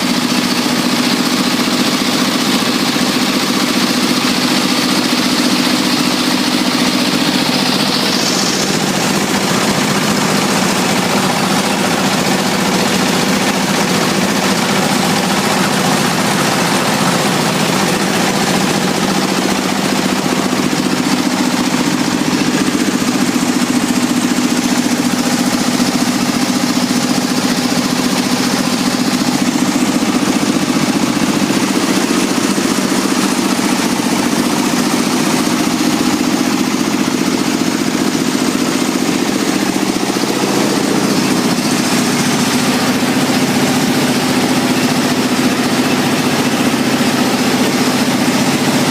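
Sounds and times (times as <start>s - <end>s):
rice milling machine drone: 0.0s - 48.9s.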